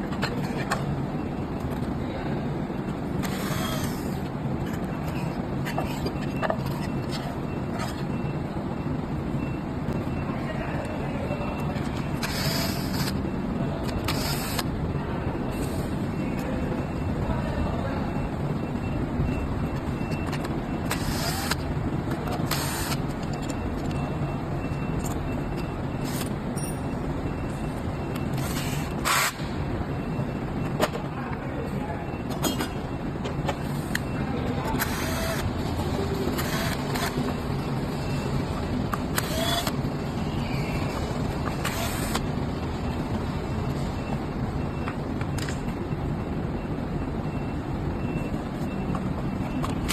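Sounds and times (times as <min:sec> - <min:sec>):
workshop low rumble: 0:00.0 - 0:49.9.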